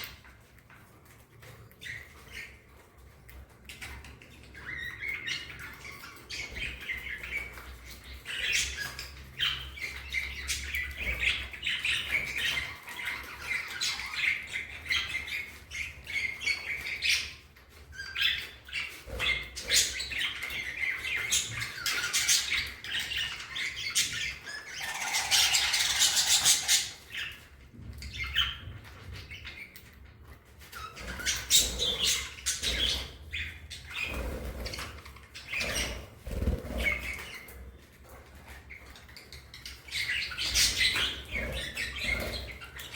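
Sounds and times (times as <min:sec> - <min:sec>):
budgerigars chattering and warbling: 0:03.3 - 0:29.9, 0:30.6 - 0:42.9.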